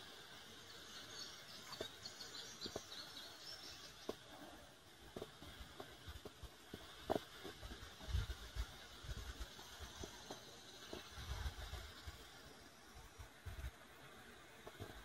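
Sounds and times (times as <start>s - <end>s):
faint birds chirping: 0.0s - 13.4s
river ambience: 0.0s - 15.0s.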